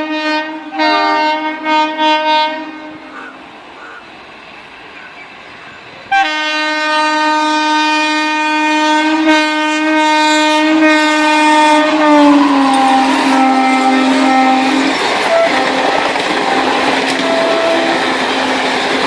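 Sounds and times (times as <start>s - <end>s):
locomotive horn blast: 0.0s - 3.4s, 6.1s - 18.7s
moving train noise: 0.0s - 19.0s.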